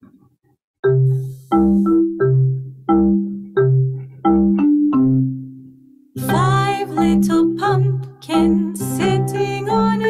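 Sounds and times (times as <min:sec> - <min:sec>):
xylophone melody: 0:00.8 - 0:10.0.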